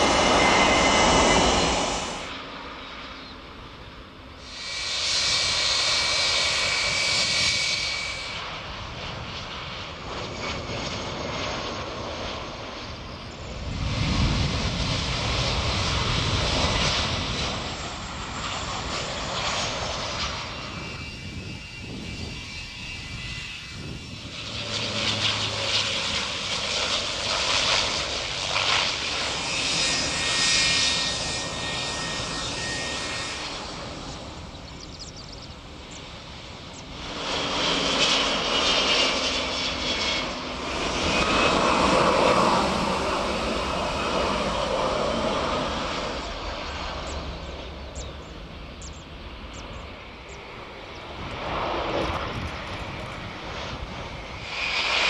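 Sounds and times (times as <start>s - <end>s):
aircraft passing with whining tones: 0.0s - 55.0s
jet airliner taking off: 0.0s - 55.0s.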